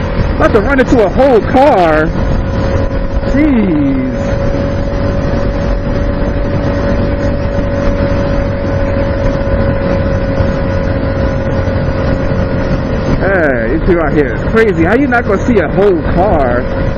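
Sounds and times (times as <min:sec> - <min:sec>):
motorcycle engine cruising: 0:00.0 - 0:16.9
road and wind noise: 0:00.0 - 0:16.9.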